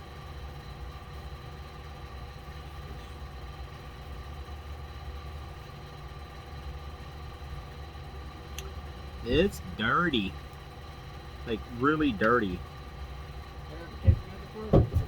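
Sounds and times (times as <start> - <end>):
faint steady tones: 0.0 - 15.0
low machine hum: 0.0 - 15.0.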